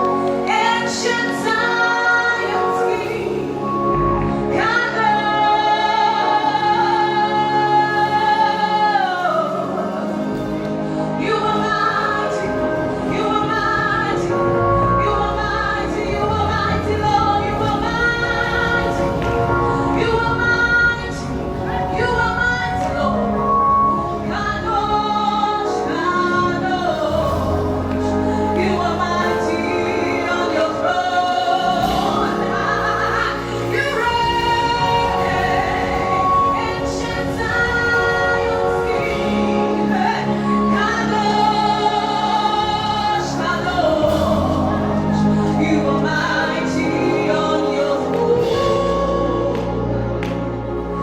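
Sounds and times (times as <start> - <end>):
instrumental accompaniment: 0.0 - 51.0
woman singing: 0.0 - 51.0.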